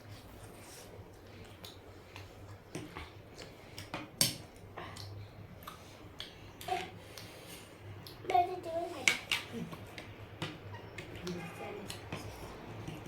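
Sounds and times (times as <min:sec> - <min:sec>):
clicks and taps of eating: 0:01.4 - 0:07.3, 0:08.0 - 0:13.0.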